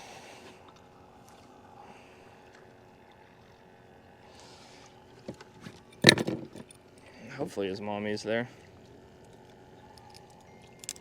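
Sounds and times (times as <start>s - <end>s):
low even hum with hiss: 0.0s - 11.0s.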